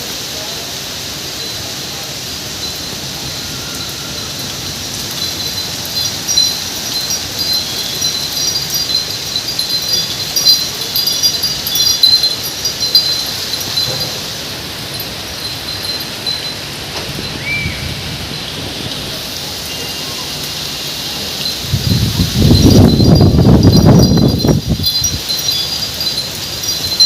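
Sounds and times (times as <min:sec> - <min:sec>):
heavy rain hiss: 0:00.0 - 0:27.0
wind chimes tinkling: 0:00.4 - 0:27.0.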